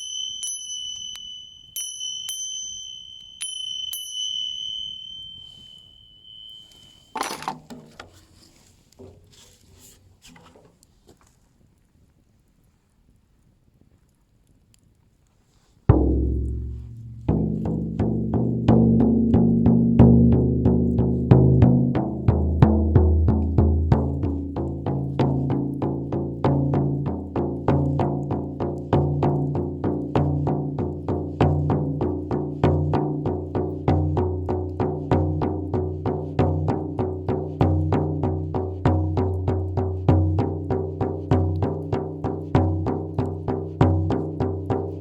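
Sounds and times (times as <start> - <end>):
ringing pitched drum strokes: 0.0 - 8.1, 15.9 - 45.0.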